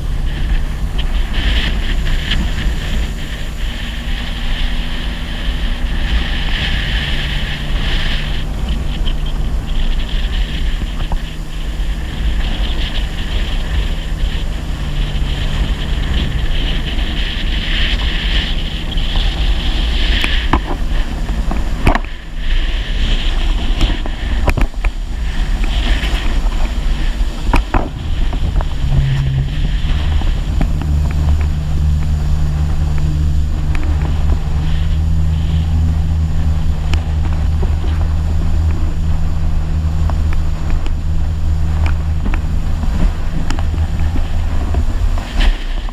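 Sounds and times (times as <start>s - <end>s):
water and wind rushing: 0.0s - 45.9s
watercraft engine hum: 0.0s - 45.9s.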